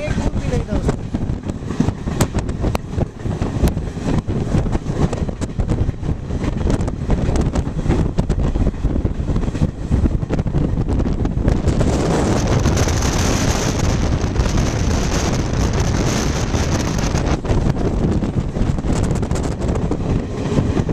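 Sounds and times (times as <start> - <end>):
train wheels rumbling on track: 0.0 - 20.9
wind noise on microphone: 0.0 - 20.9.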